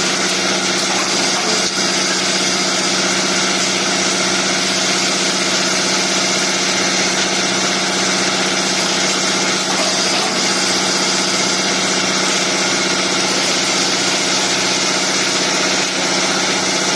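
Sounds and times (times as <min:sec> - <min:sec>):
milling machine droning: 0:00.0 - 0:16.9.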